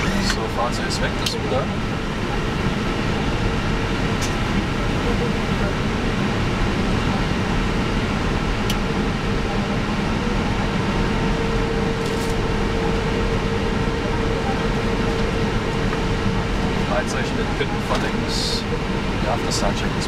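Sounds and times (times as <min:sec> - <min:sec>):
air conditioning and fans rushing: 0:00.0 - 0:20.0
steady hum: 0:00.0 - 0:20.0.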